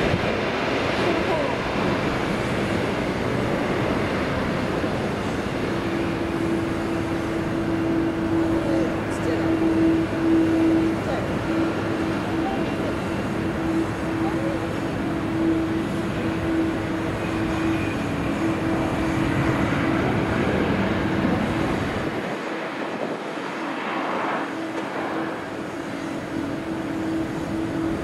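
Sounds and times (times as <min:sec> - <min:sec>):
jet engines rushing: 0:00.0 - 0:28.0
low engine rumble: 0:00.0 - 0:28.0.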